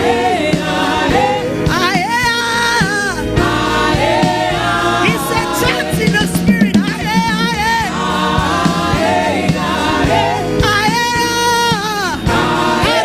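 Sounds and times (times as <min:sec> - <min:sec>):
gospel worship singing: 0:00.0 - 0:13.0
musical accompaniment: 0:00.0 - 0:13.0.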